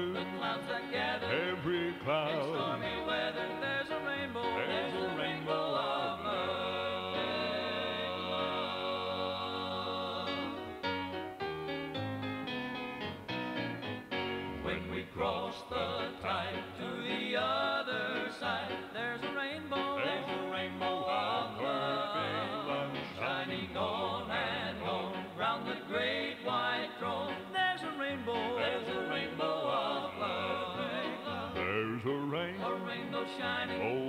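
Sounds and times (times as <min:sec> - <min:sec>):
people singing with vibrato: 0:00.0 - 0:11.0, 0:14.5 - 0:34.0
instrumental backing: 0:00.0 - 0:34.0.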